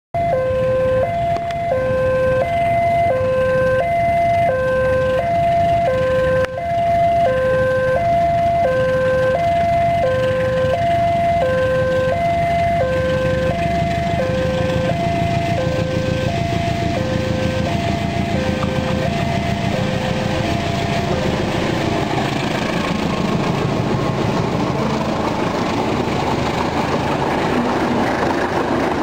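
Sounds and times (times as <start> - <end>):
two-tone crossing alarm: 0.2 - 24.0
low rumble: 3.9 - 29.0.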